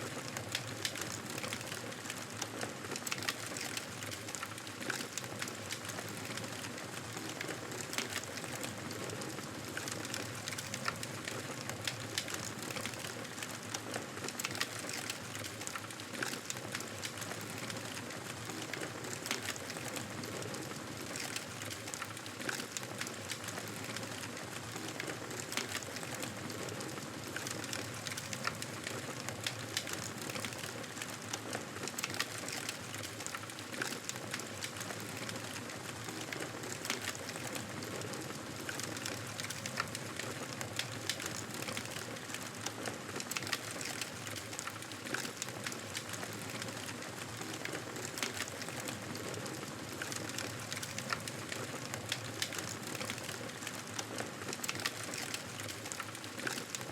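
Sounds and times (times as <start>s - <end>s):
wood fire crackling: 0.1s - 56.9s.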